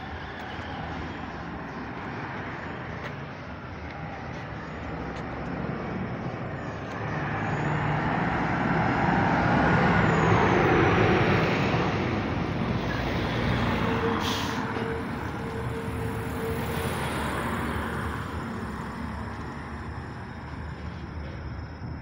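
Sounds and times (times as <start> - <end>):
lorry passing by: 0.0 - 21.9.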